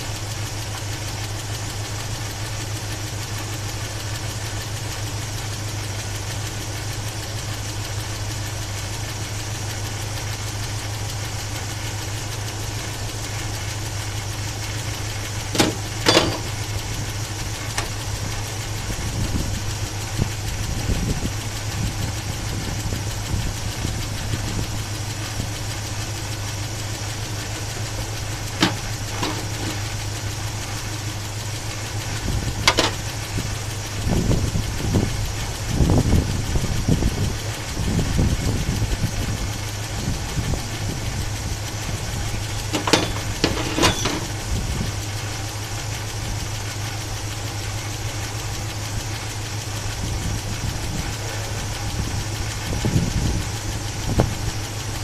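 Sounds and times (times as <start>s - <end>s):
car engine idling: 0.0s - 55.0s
sharp engine clicks: 0.1s - 55.0s.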